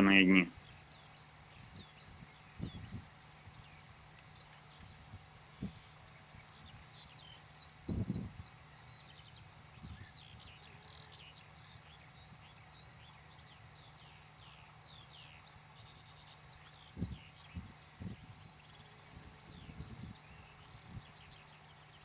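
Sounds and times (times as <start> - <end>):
songbird chirping: 0.0 - 22.0.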